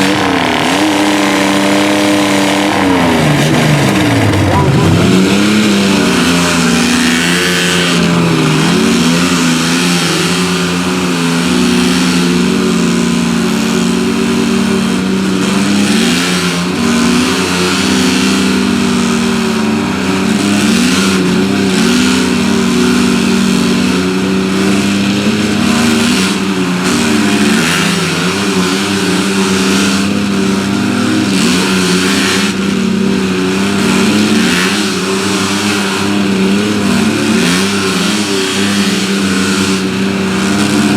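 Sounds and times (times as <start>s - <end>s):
truck engines at high revs: 0.0s - 40.9s.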